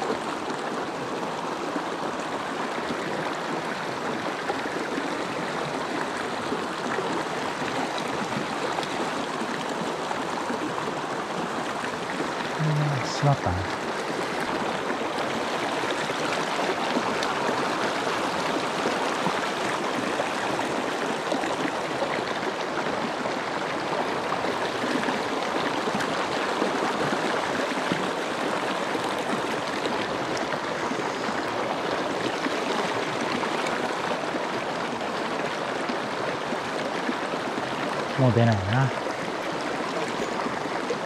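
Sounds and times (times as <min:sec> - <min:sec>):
stream running over stones: 0:00.0 - 0:41.0.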